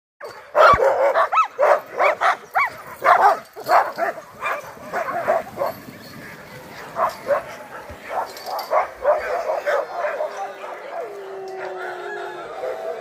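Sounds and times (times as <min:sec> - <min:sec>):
dogs barking and yelping: 0:00.2 - 0:13.0.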